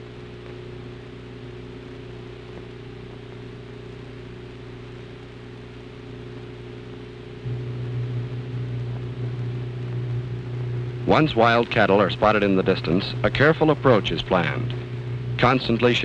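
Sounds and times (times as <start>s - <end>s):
film soundtrack hiss: 0.0s - 16.0s
low electrical hum: 0.0s - 16.0s.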